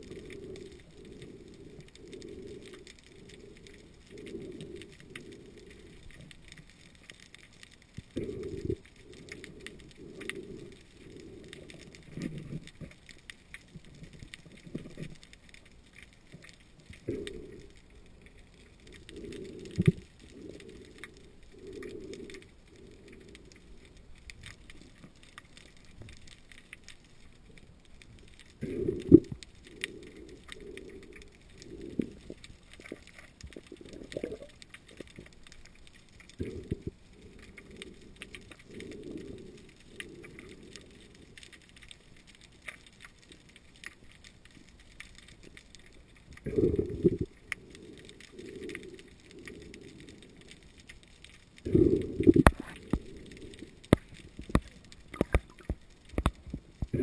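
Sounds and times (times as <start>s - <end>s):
faint clicks and crackle: 0.0s - 57.0s
muffled underwater water pulses: 0.0s - 57.0s.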